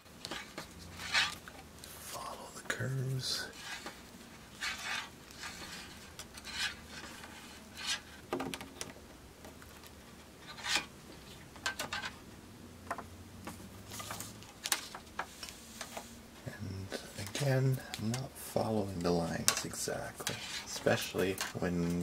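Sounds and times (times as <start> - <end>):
wire scraping and rustling on paper: 0.1 - 2.1, 2.8 - 9.0, 9.6 - 12.2, 13.4 - 22.0.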